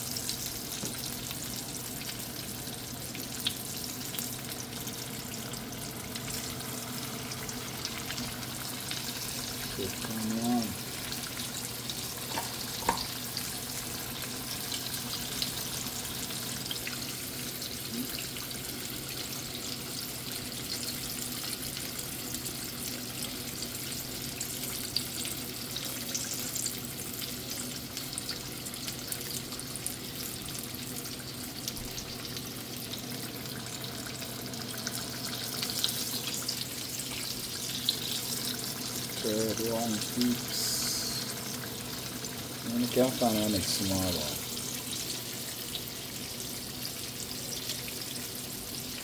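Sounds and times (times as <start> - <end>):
fish sizzling in hot oil: 0.0 - 49.0.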